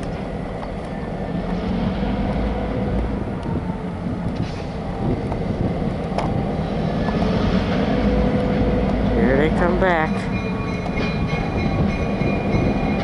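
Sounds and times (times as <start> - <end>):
locomotive engine rumble: 0.0 - 13.0.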